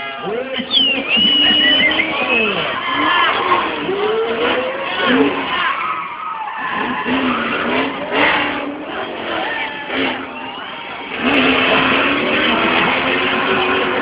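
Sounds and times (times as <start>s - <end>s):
car engine revving: 0.0s - 14.0s
tyre screech: 0.2s - 14.0s.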